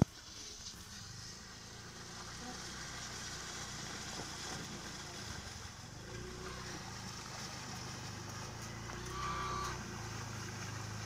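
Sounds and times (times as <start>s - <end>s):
flowing water rushing: 0.0s - 11.0s
distant scooter engine running: 1.0s - 11.0s.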